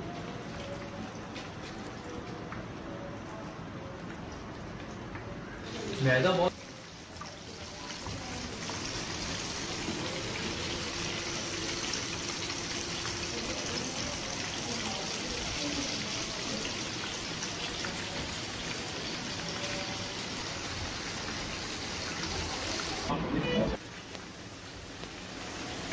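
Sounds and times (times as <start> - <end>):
chicken frying in hot oil: 0.0 - 25.9.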